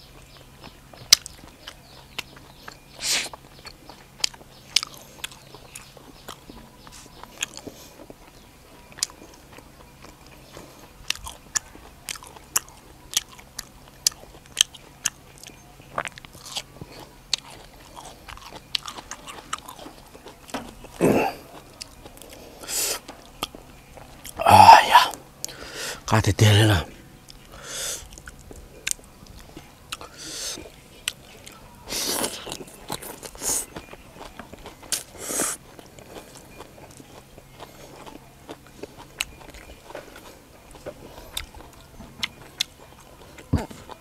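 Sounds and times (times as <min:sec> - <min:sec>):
chewing and crunching vegetables: 0:00.0 - 0:44.0.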